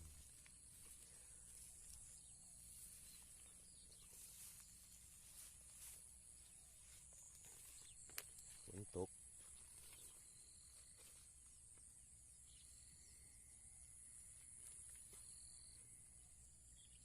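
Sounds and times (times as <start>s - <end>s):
crickets chirring: 0.0s - 17.0s
low insect trill: 0.0s - 17.0s.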